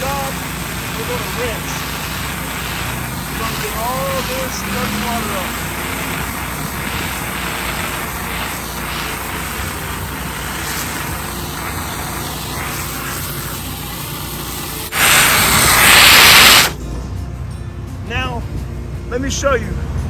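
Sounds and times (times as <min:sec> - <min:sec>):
loud rushing hiss: 0:00.0 - 0:16.8
pressure washer running: 0:00.0 - 0:16.8
water spray hissing: 0:00.0 - 0:16.8.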